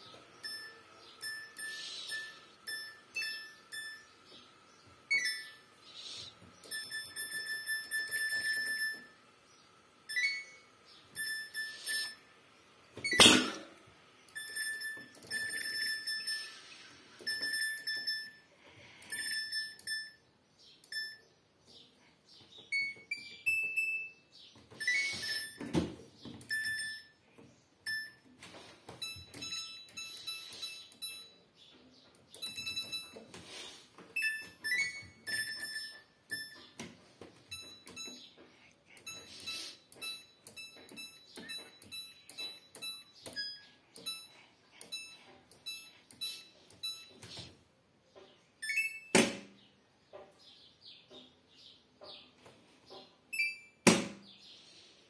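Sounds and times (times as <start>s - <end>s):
washing machine panel beeping: 0.0s - 12.3s, 12.9s - 21.3s, 22.6s - 47.6s, 48.6s - 49.6s, 52.9s - 54.3s.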